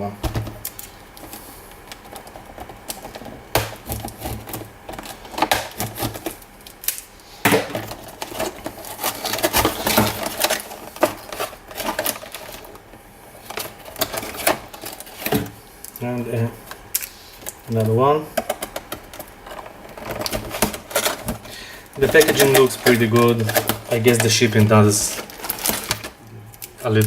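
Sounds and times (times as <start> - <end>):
packaging clicks knocks and rustles: 0.2 - 27.0.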